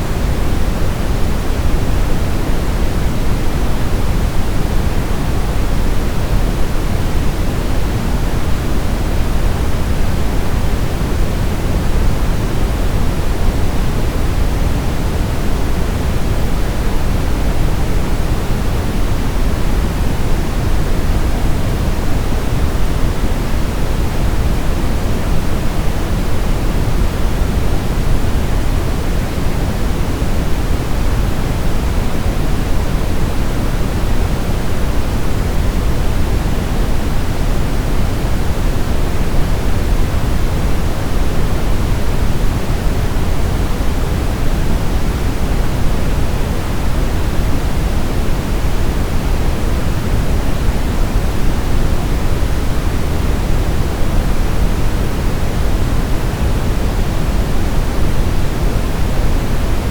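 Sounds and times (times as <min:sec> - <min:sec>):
brown noise hiss: 0:00.0 - 0:59.9.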